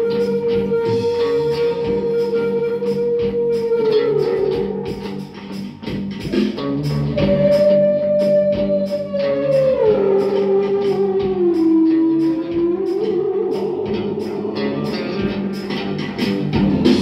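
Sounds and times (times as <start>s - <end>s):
hand whistle note: 0.0s - 5.8s, 7.0s - 16.3s
electric guitar strumming: 0.0s - 17.0s.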